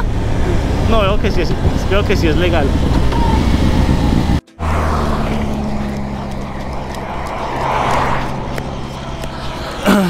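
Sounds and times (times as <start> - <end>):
low riding noise: 0.0 - 10.0.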